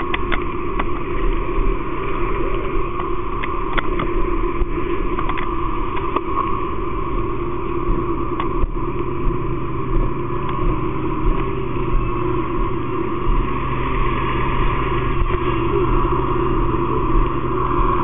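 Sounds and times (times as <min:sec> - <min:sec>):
fire engine mechanical hum: 0:00.0 - 0:18.0.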